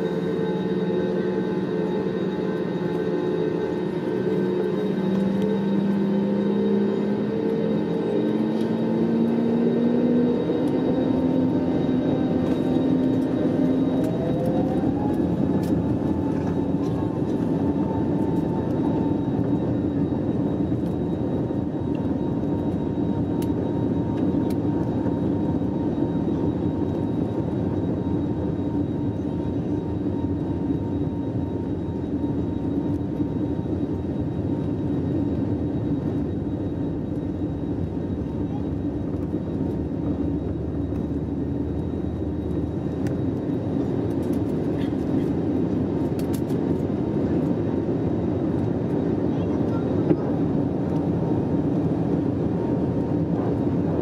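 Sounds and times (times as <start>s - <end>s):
aircraft engine hum: 0.0s - 54.0s.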